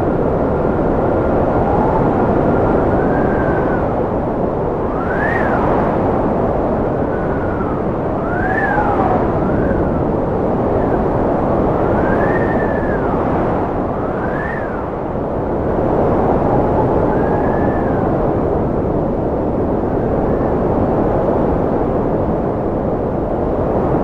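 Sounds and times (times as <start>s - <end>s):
strong wind howling: 0.0s - 24.0s.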